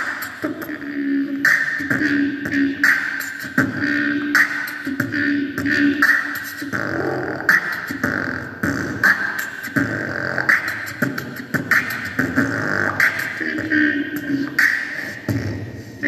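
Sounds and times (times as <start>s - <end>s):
child beatboxing into microphone: 0.0s - 16.0s.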